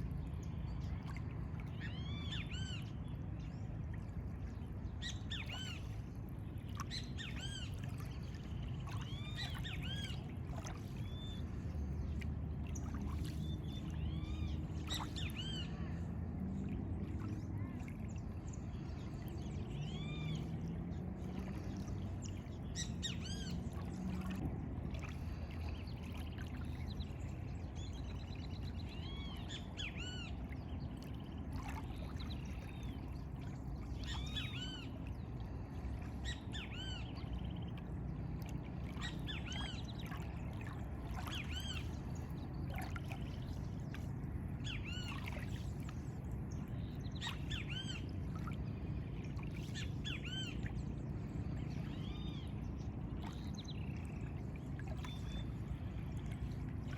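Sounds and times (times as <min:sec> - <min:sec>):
low hum: 0:00.0 - 0:56.9.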